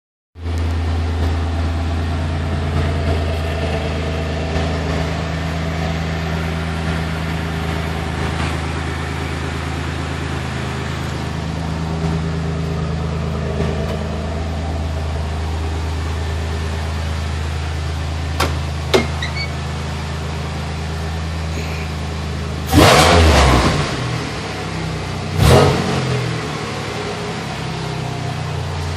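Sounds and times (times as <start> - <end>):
car engine idling: 0.4 - 28.9
engine revving: 0.6 - 28.9.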